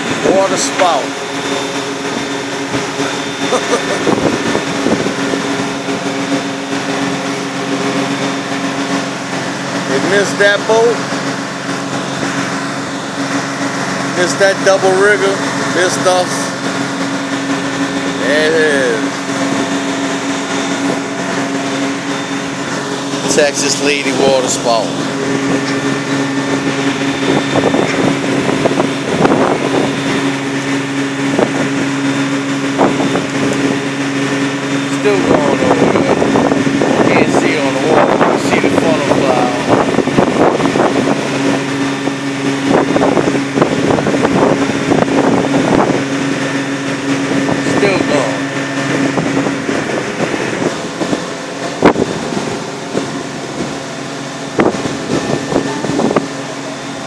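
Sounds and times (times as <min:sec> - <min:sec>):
boat engine drone: 0:00.0 - 0:57.0
wind buffeting microphone: 0:00.0 - 0:57.0.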